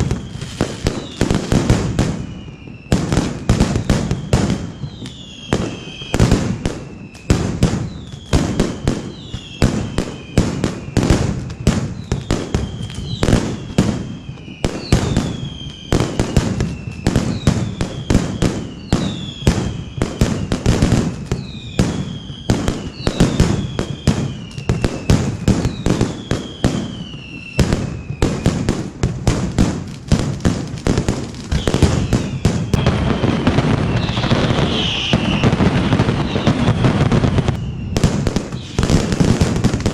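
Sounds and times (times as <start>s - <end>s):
descending whistles: 0.0s - 28.6s, 31.4s - 39.2s
firecrackers banging: 0.0s - 39.9s.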